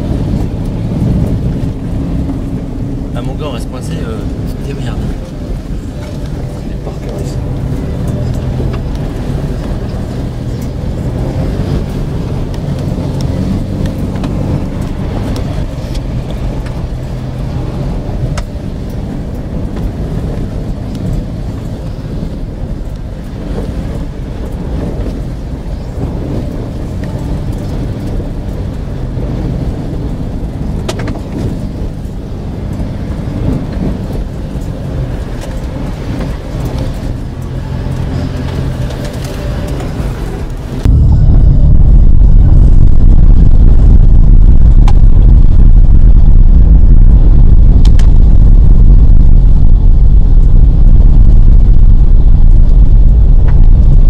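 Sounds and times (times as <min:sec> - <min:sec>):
car engine running: 0:00.0 - 0:54.0.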